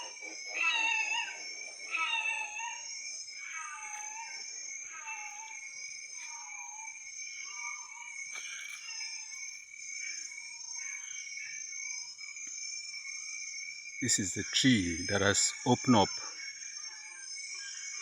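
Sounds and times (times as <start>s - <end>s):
high drone of insects: 0.0s - 18.0s.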